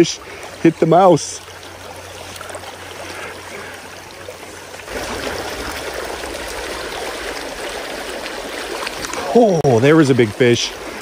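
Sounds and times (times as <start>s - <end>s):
creek water babbling over gravel: 0.0s - 11.0s.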